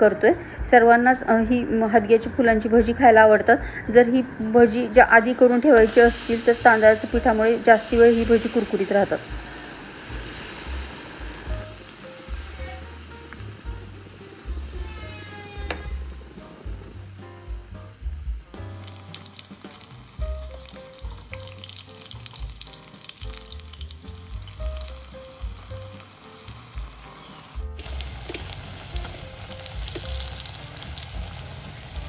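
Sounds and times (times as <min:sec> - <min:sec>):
light background music: 0:00.0 - 0:32.0
fritters sizzling in hot oil: 0:05.2 - 0:32.0.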